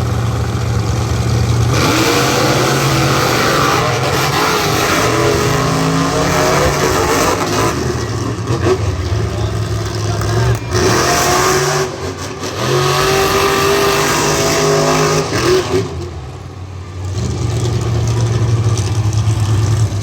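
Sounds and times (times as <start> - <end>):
monster truck engines revving: 0.0 - 20.0.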